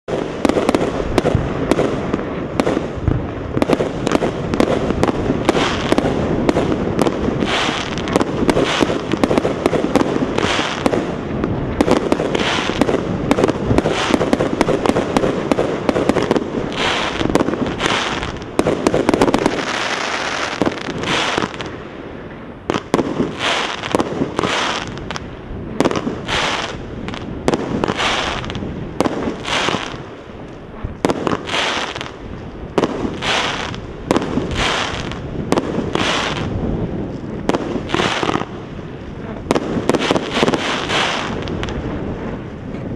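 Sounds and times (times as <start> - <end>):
fireworks bangs and crackling pops: 0.0 - 42.9.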